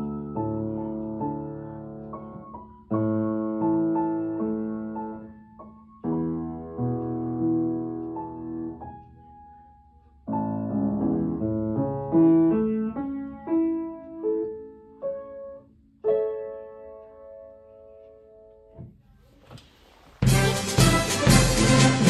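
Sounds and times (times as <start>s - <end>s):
piano music: 0.0s - 18.8s, 20.2s - 22.0s.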